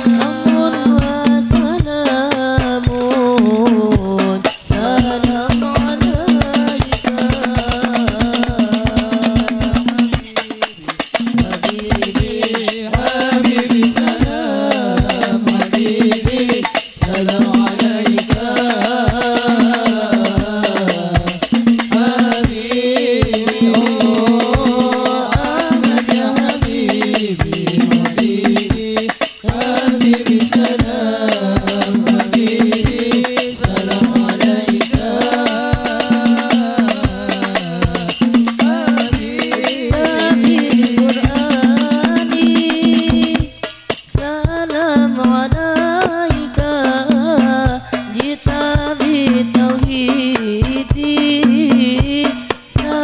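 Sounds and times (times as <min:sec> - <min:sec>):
devotional singing: 0:00.0 - 0:53.0
frame drums beating: 0:00.0 - 0:53.0.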